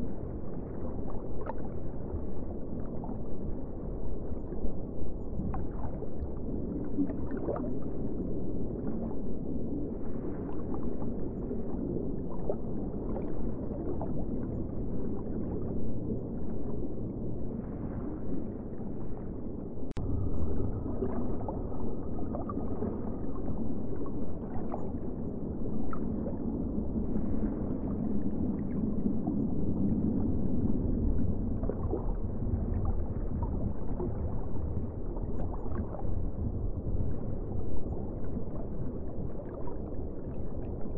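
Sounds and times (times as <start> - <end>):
aquarium water rushing and gurgling: 0.0 - 40.9.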